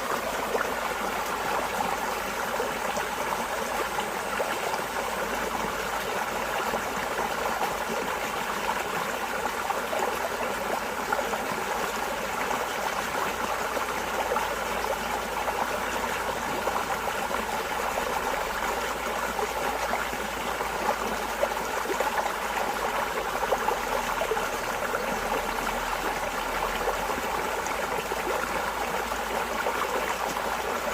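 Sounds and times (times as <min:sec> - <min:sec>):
stream water flowing and splashing: 0:00.0 - 0:30.9.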